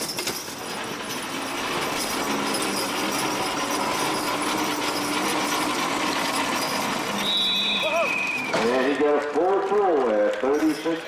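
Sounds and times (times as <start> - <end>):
sled scraping across dirt: 0.0 - 9.3.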